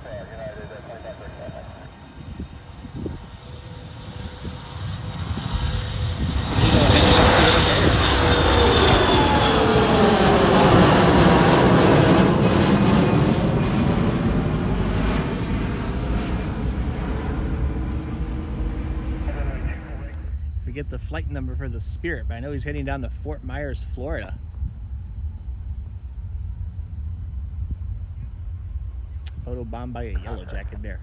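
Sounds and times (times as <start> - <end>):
jet airliner taking off: 0.0 - 31.0.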